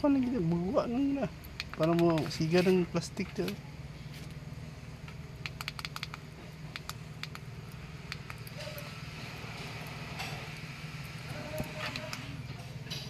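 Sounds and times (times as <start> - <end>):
charcoal crackling and popping: 0.0 - 13.0
steady low hum: 0.0 - 13.0.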